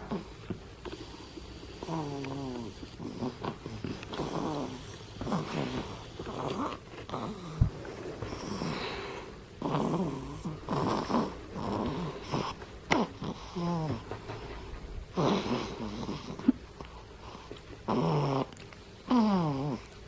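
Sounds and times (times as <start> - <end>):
baby snoring: 0.0 - 20.0.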